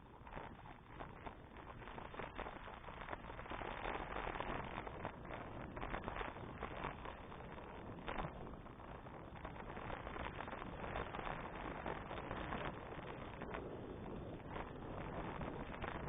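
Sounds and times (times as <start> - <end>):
bicycle riding rumble: 0.0 - 16.0
small crackles and clatters: 0.0 - 16.0.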